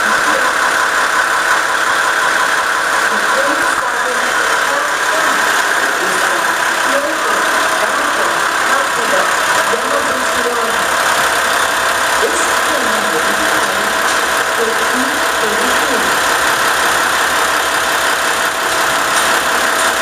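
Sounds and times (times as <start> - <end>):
diesel railcar engine idling: 0.0 - 20.0.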